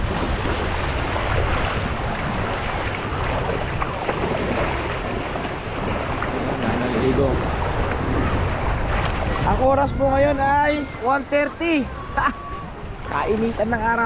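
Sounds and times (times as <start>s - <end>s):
shallow sea water washing: 0.0s - 14.0s
wind buffeting microphone: 0.0s - 14.0s.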